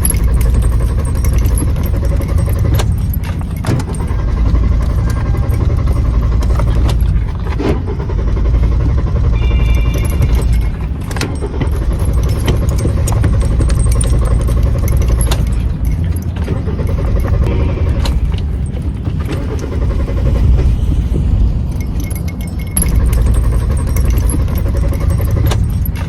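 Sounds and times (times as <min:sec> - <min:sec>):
car engine cranking: 0:00.0 - 0:26.0.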